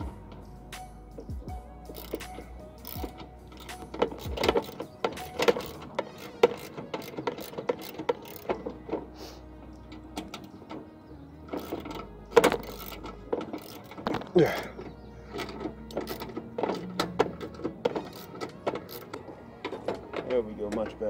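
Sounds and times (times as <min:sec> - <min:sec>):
plastic and metal clicks and rattles: 0:01.2 - 0:09.1, 0:11.5 - 0:21.0.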